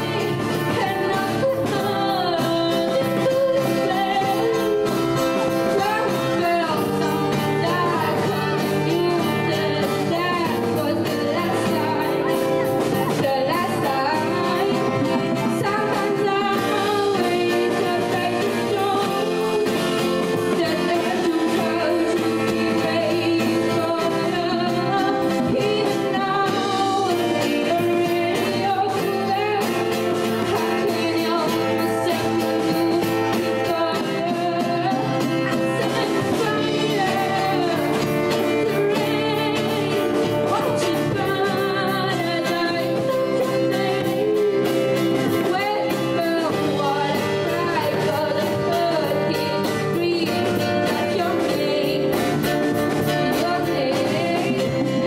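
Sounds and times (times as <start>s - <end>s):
acoustic guitar: 0.0s - 55.0s
drums: 0.0s - 55.0s
woman singing into microphone: 0.0s - 55.0s.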